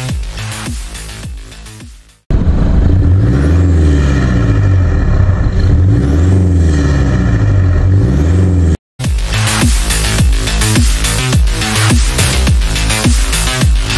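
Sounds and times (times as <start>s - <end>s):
engine revving: 2.3s - 13.9s.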